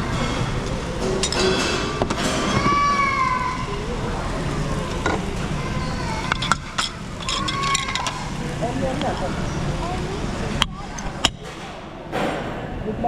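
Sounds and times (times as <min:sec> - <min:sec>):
room hum: 0:00.0 - 0:13.0
voices: 0:00.0 - 0:13.0.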